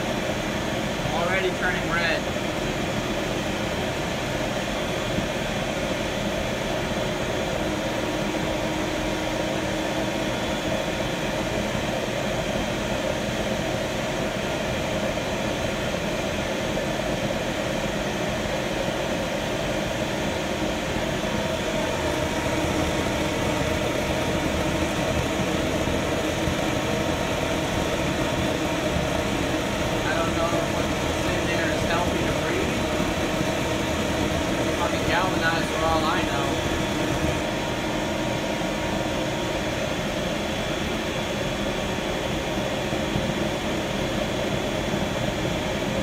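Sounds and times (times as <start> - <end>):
propane torch flame roaring: 0.0 - 46.0.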